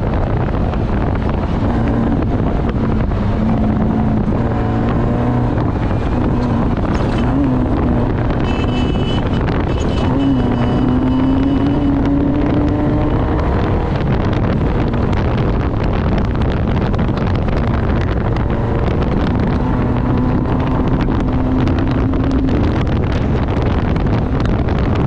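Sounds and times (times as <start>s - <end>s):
race vehicle engine running hard: 0.0s - 25.0s
wind buffeting microphone: 0.0s - 25.0s.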